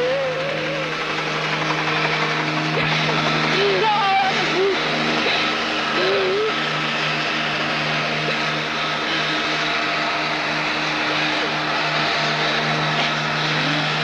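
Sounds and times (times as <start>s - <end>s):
crane machinery drone: 0.0s - 14.0s.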